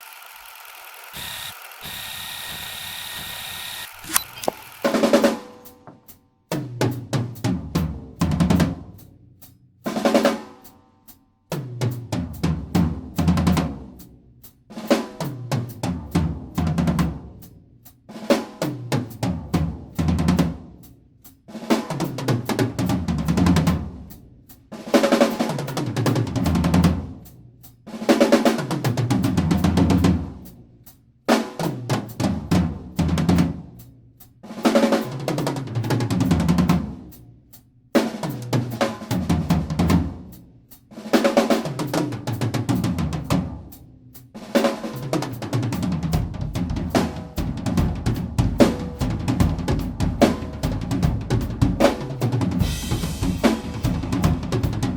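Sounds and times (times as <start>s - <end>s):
drum kit fills: 4.5s - 54.9s.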